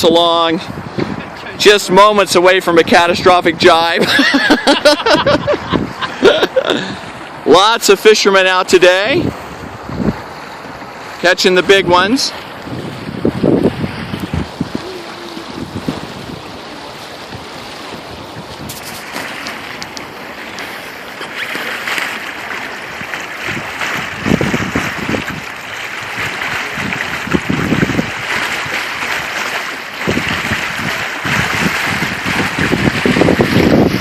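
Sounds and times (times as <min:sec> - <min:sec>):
wind buffeting microphone: 0:00.0 - 0:04.2, 0:05.0 - 0:07.5, 0:08.8 - 0:21.0, 0:21.9 - 0:34.0
wind and water hissing: 0:00.0 - 0:34.0.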